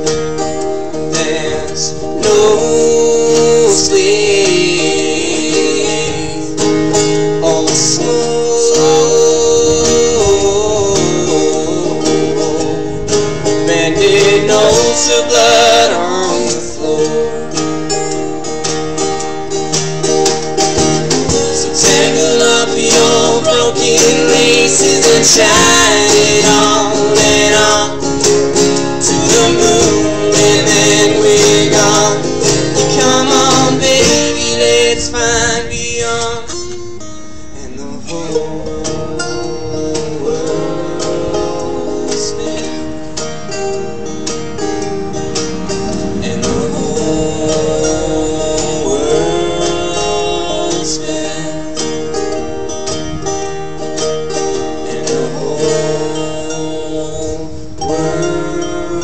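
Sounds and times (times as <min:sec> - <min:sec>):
acoustic guitar: 0:00.0 - 0:59.0
plucked strings: 0:00.0 - 0:59.0.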